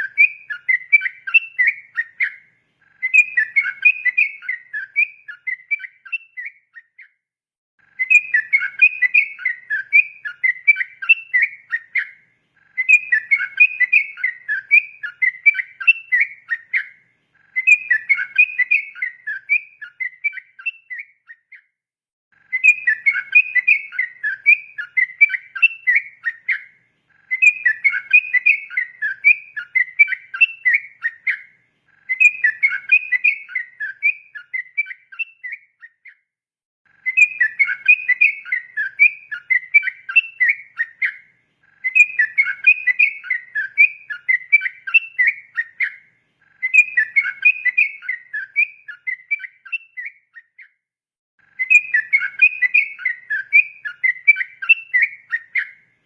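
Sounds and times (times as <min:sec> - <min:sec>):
bird chattering song: 0:00.0 - 0:07.2, 0:07.8 - 0:21.7, 0:22.4 - 0:36.3, 0:36.9 - 0:50.8, 0:51.4 - 0:56.0.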